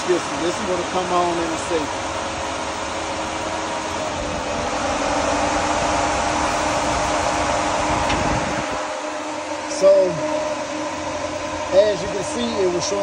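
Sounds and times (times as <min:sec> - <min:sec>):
cooling fans rushing air: 0:00.0 - 0:13.0.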